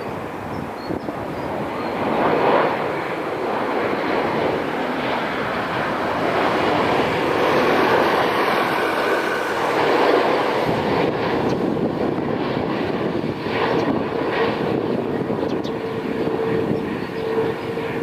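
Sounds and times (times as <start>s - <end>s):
jet engines running loudly: 0.0s - 18.0s.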